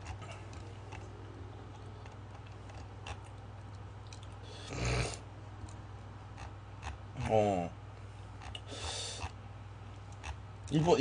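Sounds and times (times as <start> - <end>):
low hum: 0.0 - 10.7.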